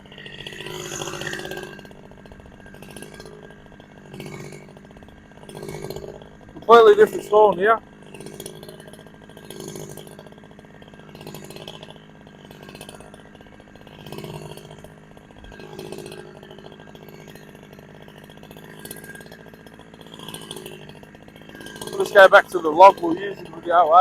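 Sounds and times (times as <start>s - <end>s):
chainsaw engine running: 0.0s - 24.0s.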